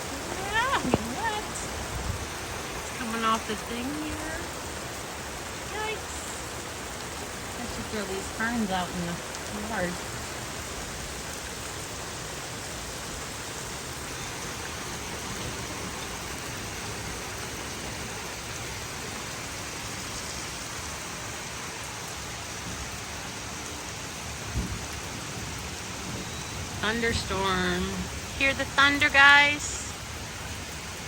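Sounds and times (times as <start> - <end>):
thunder rumbling: 0.0 - 19.6, 24.2 - 30.6
heavy rain pouring: 0.0 - 31.0.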